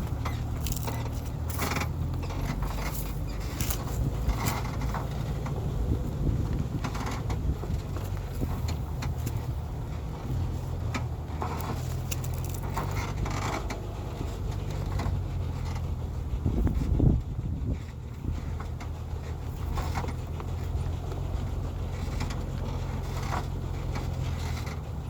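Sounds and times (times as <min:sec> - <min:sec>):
truck clanks and rattles: 0:00.0 - 0:25.0
truck engine running: 0:00.0 - 0:25.0.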